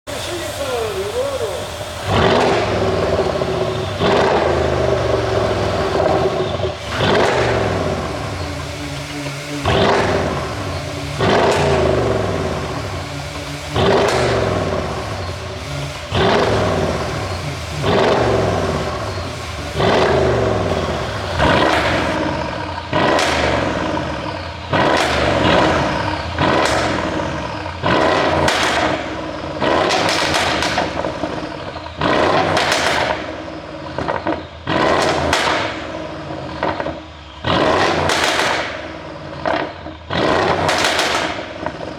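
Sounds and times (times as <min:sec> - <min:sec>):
car engine revving: 0:00.0 - 0:41.9
exhaust pops and crackles: 0:00.1 - 0:41.9.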